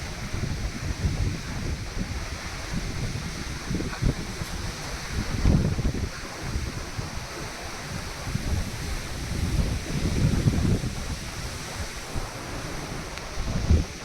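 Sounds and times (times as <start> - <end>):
ocean waves washing: 0.0 - 14.0
wind buffeting microphone: 0.0 - 14.0.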